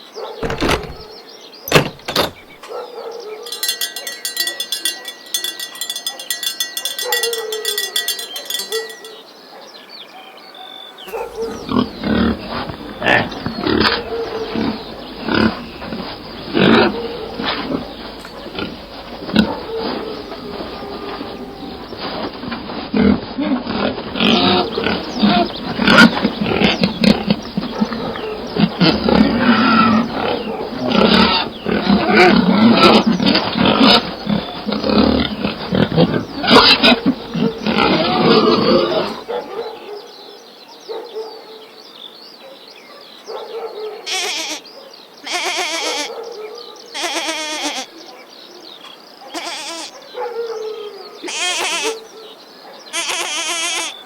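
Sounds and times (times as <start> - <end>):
animal calls and grunts: 0.0 - 41.5, 43.3 - 54.0.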